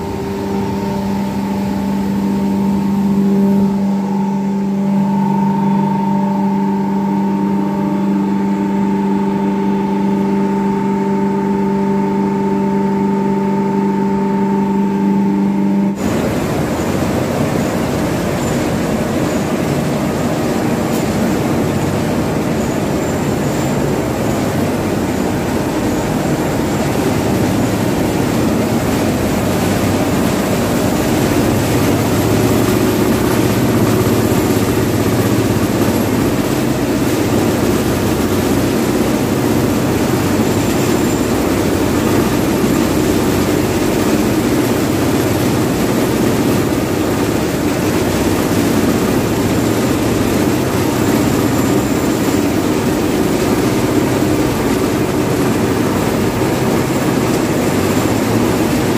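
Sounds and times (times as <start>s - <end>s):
constant low hum: 0.0s - 58.9s
machines droning: 0.0s - 58.9s.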